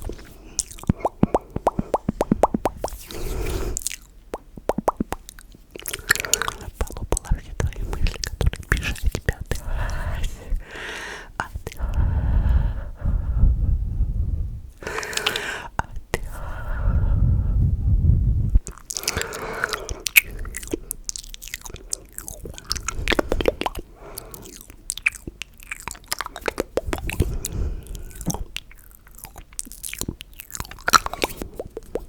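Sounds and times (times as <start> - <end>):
wet mouth clicks and smacks: 0.0 - 10.6, 11.4 - 12.0, 14.8 - 16.4, 18.6 - 32.0.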